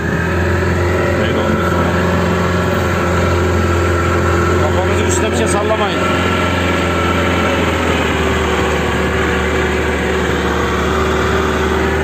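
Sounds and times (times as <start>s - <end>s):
boat engine droning: 0.0s - 12.0s
water rushing: 0.0s - 12.0s.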